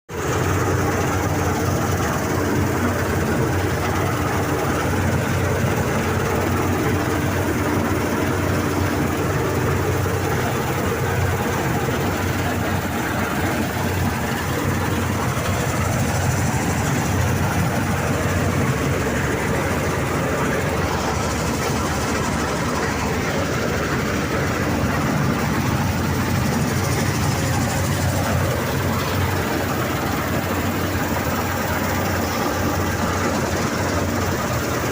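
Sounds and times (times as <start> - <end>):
harvester engine drone: 0.1 - 34.9.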